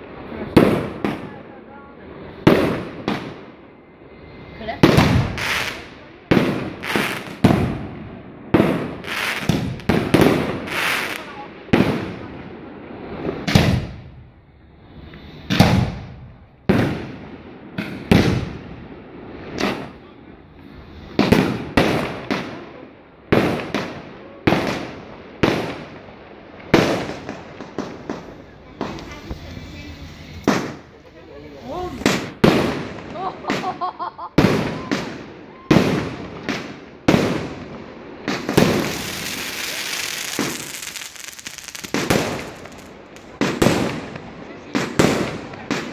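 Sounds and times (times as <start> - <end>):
fireworks bangs echoing: 0.0 - 1.6, 2.3 - 3.7, 4.7 - 45.9.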